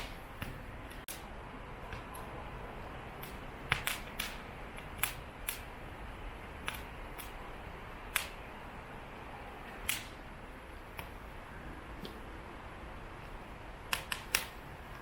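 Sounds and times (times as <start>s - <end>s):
wood fire crackling: 0.0s - 12.2s.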